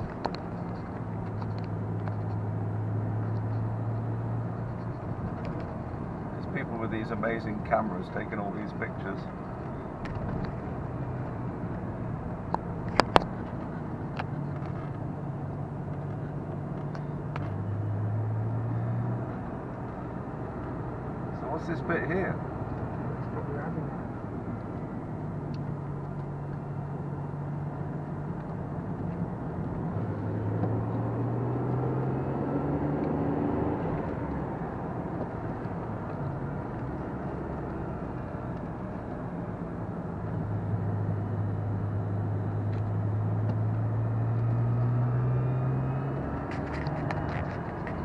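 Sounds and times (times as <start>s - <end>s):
car engine accelerating: 0.0s - 48.0s
road and tyre noise: 0.0s - 48.0s.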